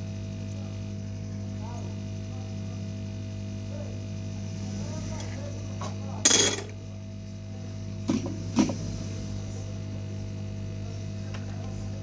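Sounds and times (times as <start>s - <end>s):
electrical hum: 0.0s - 12.0s
faint voices: 0.5s - 12.0s.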